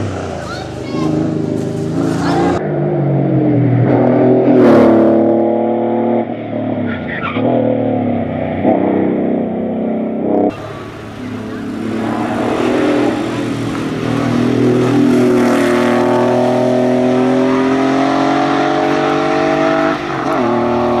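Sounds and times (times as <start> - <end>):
race car engine at full throttle: 0.0 - 21.0.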